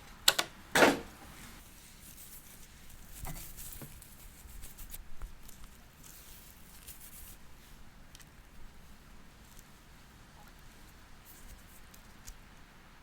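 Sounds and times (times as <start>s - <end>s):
soft rustling and scratching: 1.2s - 12.6s.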